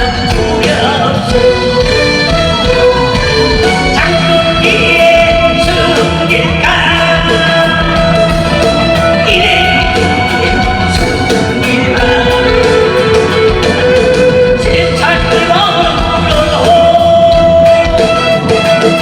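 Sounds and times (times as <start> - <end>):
person singing long held notes: 0.0 - 8.4, 9.0 - 19.0
instrumental accompaniment: 0.0 - 19.0.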